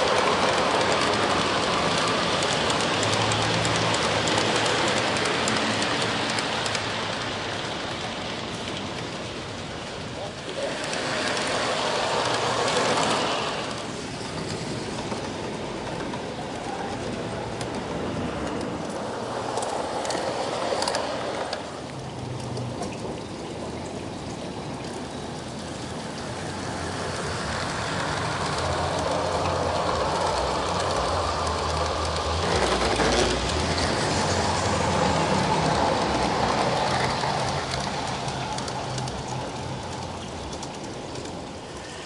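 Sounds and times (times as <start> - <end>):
model train wheels rumbling: 0.0 - 42.0.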